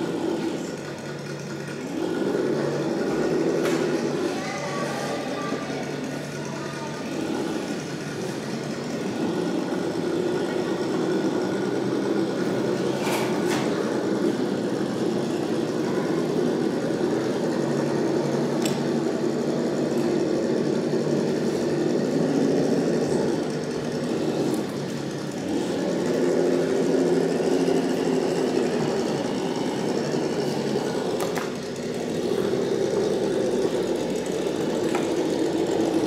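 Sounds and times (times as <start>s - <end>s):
electric motors whining: 0.0s - 36.0s.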